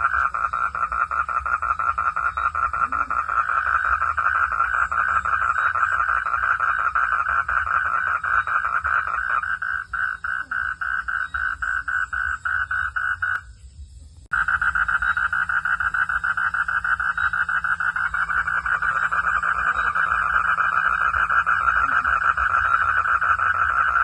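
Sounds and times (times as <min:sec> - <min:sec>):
frogs calling in chorus: 0:00.0 - 0:13.6, 0:14.3 - 0:24.0.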